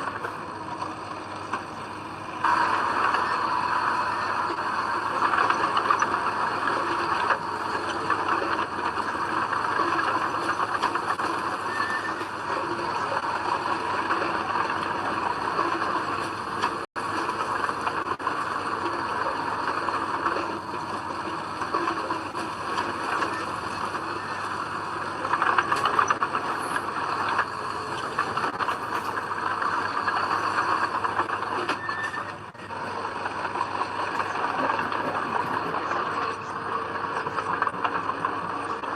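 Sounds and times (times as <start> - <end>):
bulldozer engine whining: 0.0 - 38.9.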